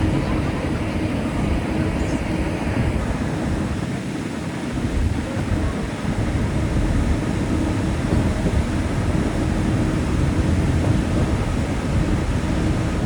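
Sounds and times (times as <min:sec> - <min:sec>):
faint steady hum: 0:00.0 - 0:13.0
train running rumble: 0:00.0 - 0:13.0.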